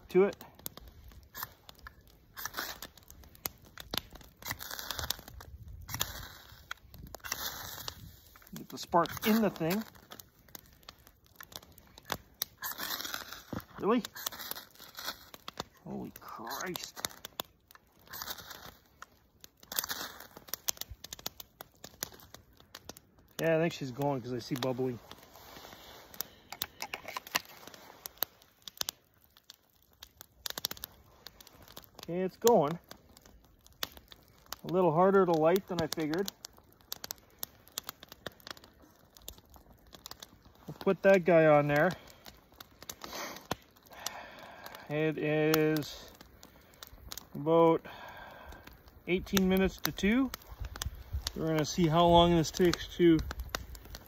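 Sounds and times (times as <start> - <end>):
fuel cube burning with crackles: 0.0 - 54.0.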